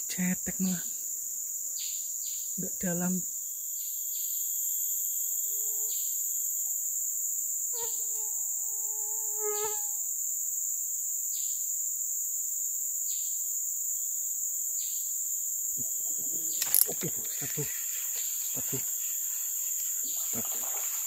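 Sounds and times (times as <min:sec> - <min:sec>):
insects droning high-pitched: 0:00.0 - 0:21.0.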